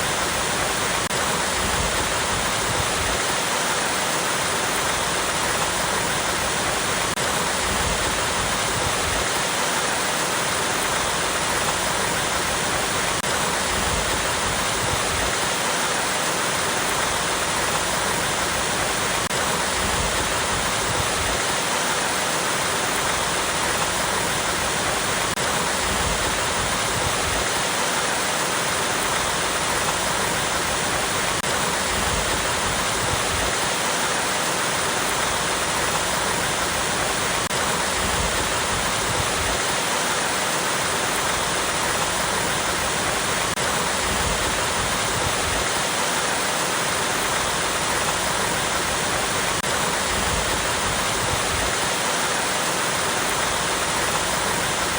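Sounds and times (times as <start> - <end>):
waterfall pouring over rocks: 0.0 - 54.9.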